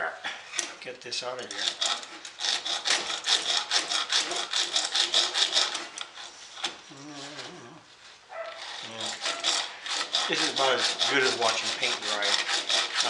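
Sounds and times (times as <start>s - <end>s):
hacksaw cutting metal: 0.6s - 6.8s, 8.4s - 13.0s.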